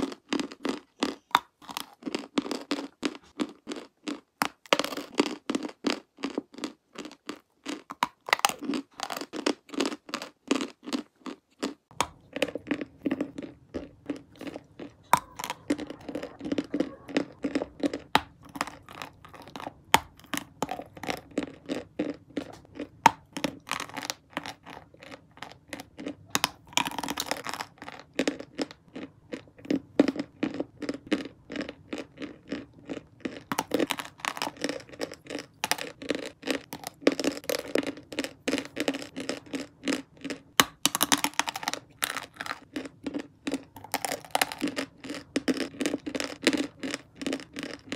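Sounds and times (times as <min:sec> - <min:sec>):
chewing chalk crunches: 0:00.0 - 0:47.9.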